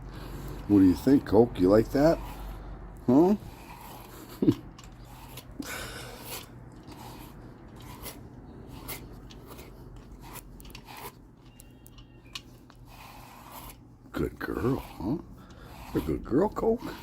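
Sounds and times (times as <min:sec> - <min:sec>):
brush scraping through fur: 0:00.2 - 0:11.3, 0:12.4 - 0:17.0.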